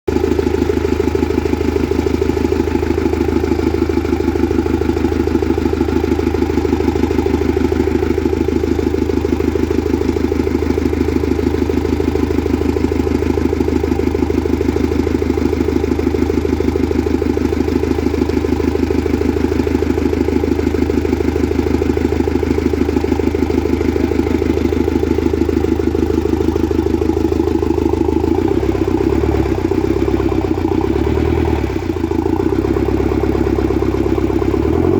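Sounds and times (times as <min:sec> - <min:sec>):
forklift engine idling: 0:00.1 - 0:34.9.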